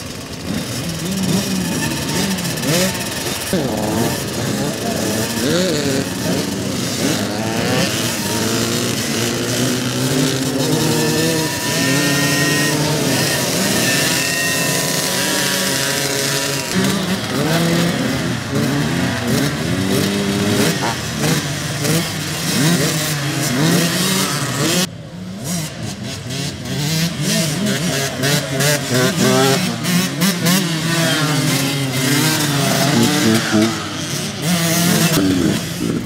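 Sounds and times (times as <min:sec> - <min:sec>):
dirt bike engines revving: 0:00.0 - 0:36.0.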